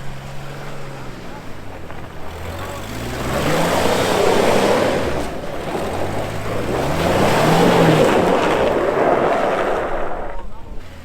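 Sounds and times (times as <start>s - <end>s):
engine revving under load: 0.0s - 11.0s.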